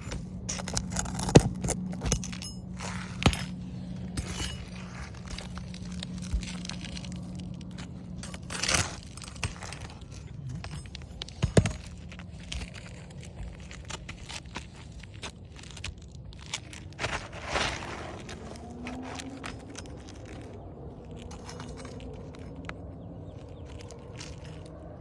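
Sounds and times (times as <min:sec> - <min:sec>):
rustling scrapes: 0:00.0 - 0:25.0
scraping and crunching shingles: 0:00.0 - 0:25.0.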